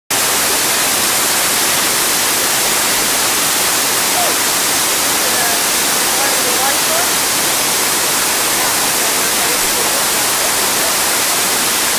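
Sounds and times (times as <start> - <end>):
waterfall rushing: 0.1 - 11.9.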